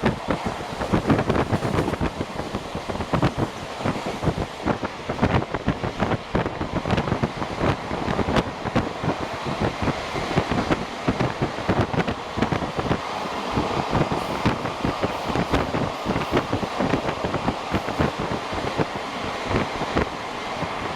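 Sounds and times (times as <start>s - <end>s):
train clacks and knocks: 0.0s - 20.9s
train wheels rumbling on rail: 0.0s - 20.9s
wind on microphone: 0.0s - 20.9s.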